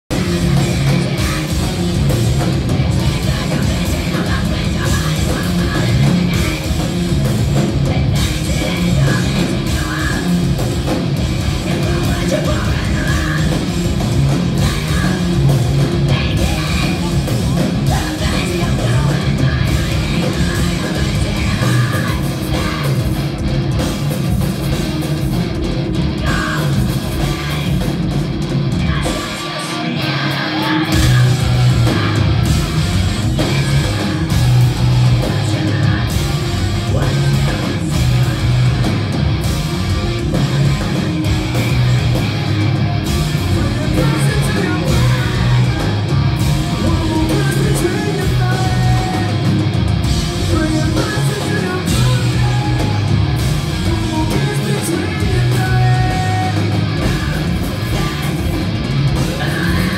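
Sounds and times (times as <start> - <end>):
distorted electric guitars: 0.0 - 59.9
drums: 0.0 - 59.9
live rock band: 0.0 - 59.9
person singing: 0.1 - 10.7, 11.6 - 23.2, 26.2 - 27.9, 28.8 - 38.9, 43.4 - 58.6, 59.2 - 59.9.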